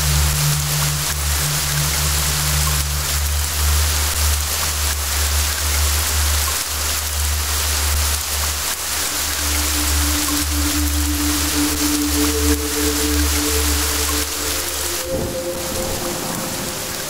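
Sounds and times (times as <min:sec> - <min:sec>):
low sustained hum: 0:00.0 - 0:06.4, 0:08.9 - 0:17.0
steady rain falling: 0:00.0 - 0:17.0.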